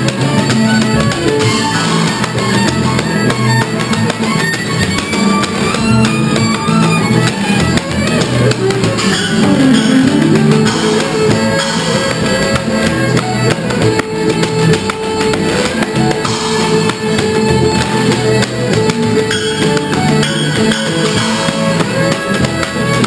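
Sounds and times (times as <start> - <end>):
banjo: 0.0 - 23.0
cymbals keeping the beat: 0.0 - 23.0
fiddle melody: 0.0 - 23.0
upright bass: 0.0 - 23.0.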